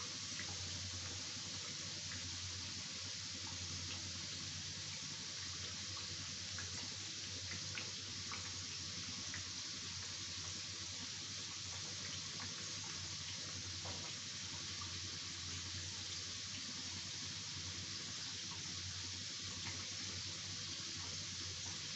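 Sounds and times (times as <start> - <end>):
oil sizzling: 0.0 - 21.9.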